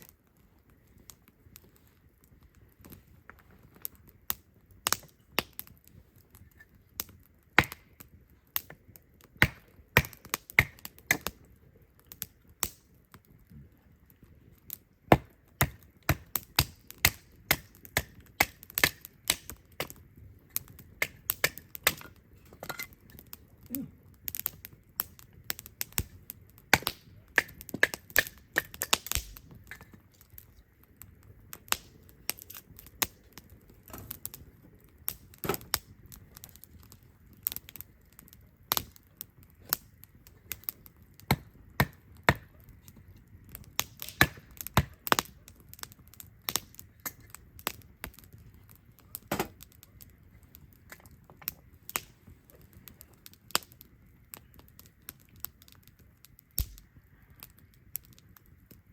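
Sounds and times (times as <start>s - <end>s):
campfire crackling and popping: 0.0s - 58.9s.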